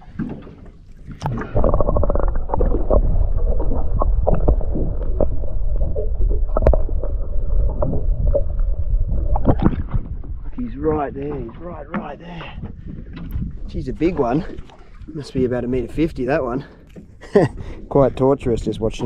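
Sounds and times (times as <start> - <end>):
muffled underwater rumble and sloshing: 0.0 - 19.0.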